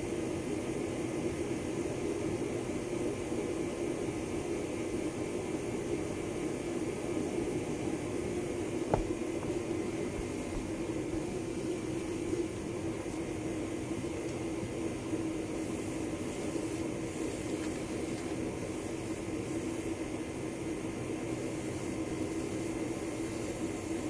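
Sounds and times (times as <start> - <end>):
mechanical hum and hiss: 0.0 - 24.0.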